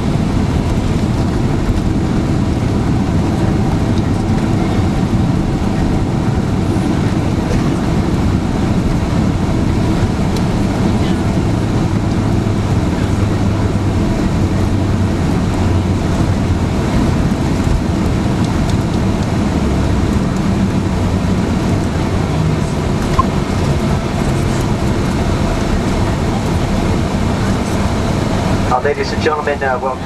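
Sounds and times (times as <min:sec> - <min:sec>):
aircraft cabin rumble: 0:00.0 - 0:30.0.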